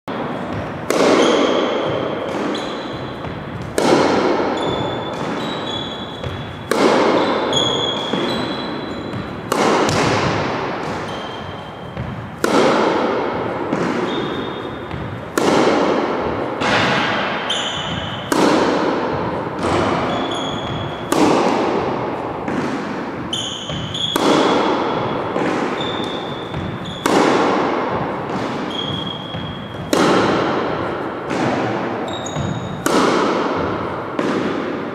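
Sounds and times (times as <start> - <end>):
sneakers squeaking on floor: 0.2 - 34.5
tennis racket hitting ball: 0.2 - 34.9.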